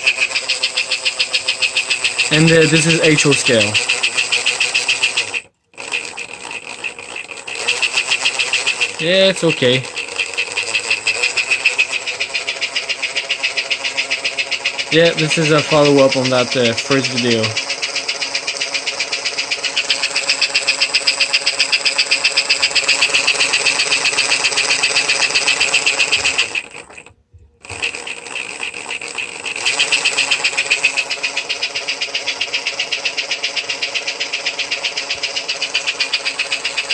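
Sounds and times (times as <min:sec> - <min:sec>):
small electric motor whirring: 0:00.0 - 0:36.9.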